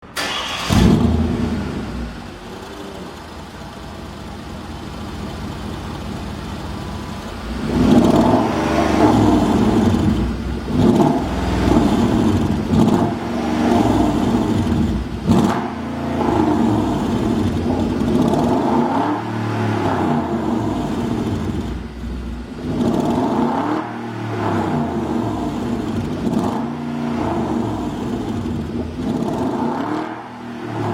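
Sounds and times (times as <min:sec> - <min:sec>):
car engine revving and idling: 0:00.1 - 0:30.9.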